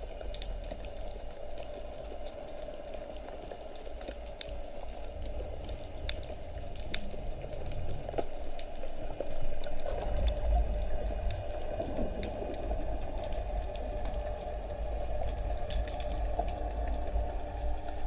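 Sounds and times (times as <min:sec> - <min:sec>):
faint crackling clicks: 0:00.0 - 0:18.0
underwater low rumble: 0:00.0 - 0:18.0.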